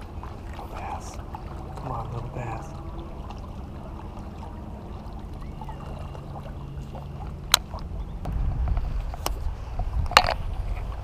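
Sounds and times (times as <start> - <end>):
low river rumble: 0.0 - 11.0.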